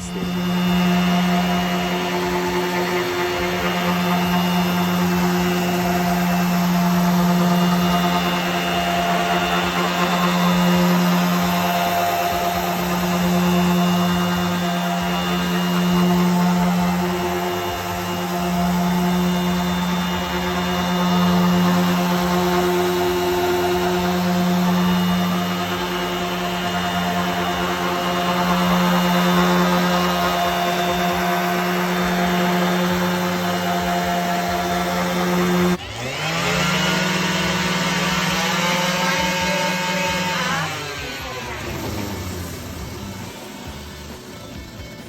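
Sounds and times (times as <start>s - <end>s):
orbital sander sanding wood: 0.0s - 45.0s.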